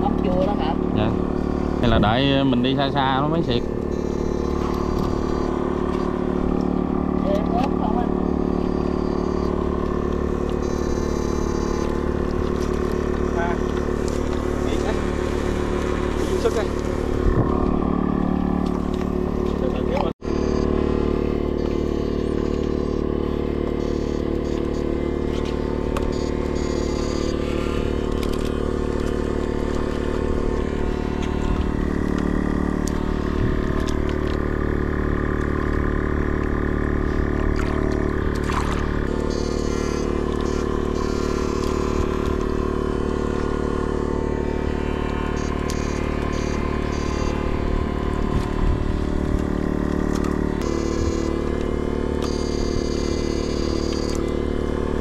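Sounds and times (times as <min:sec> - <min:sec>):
steady machine hum: 0:00.0 - 0:55.0.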